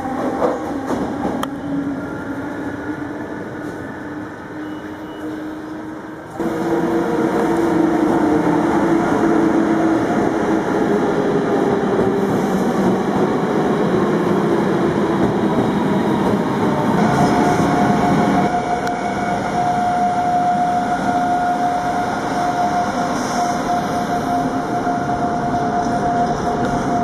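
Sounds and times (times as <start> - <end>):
electric locomotive whine: 0.0 - 27.0
passenger coaches rumbling: 0.0 - 27.0.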